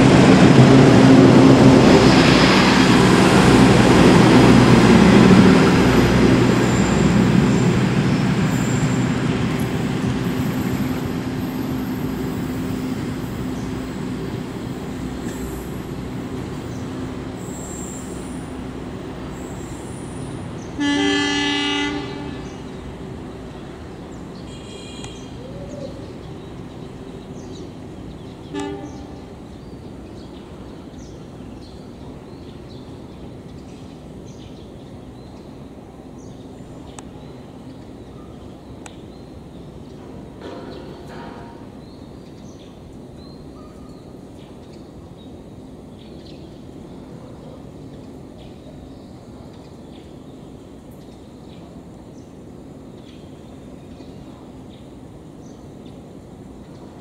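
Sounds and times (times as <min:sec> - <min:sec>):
train rumbling over tracks: 0:00.0 - 0:57.0.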